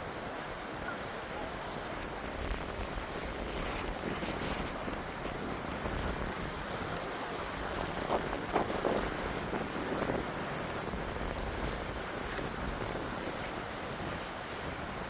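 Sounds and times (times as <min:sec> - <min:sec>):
sea waves washing on shore: 0:00.0 - 0:15.0
wind rumbling on microphone: 0:00.0 - 0:15.0.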